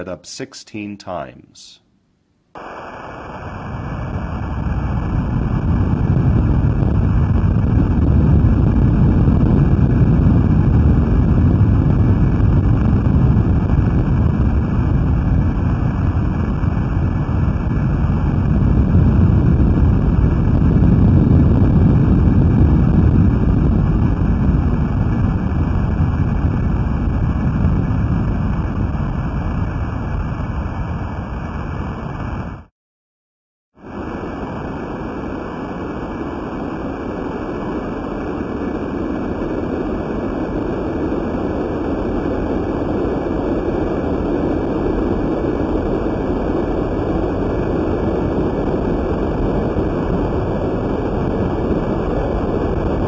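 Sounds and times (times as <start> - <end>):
rushing low rumble: 2.6 - 32.7, 33.8 - 53.0.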